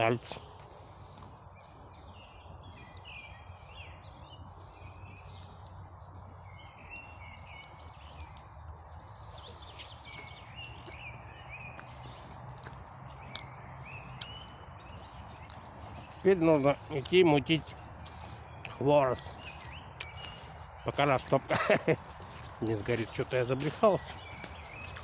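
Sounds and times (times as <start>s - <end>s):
campfire crackling and snapping: 0.0s - 25.0s
songbirds chirping: 0.0s - 25.0s.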